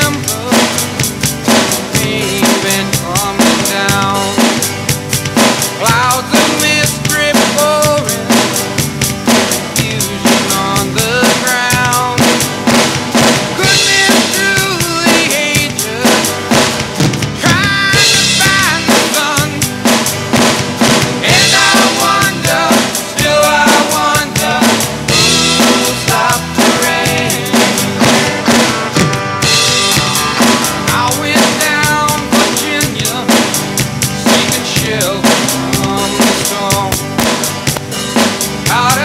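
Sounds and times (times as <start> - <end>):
electronic drum kit rock beat: 0.0 - 39.0
rock song with singing and guitar: 0.0 - 39.0.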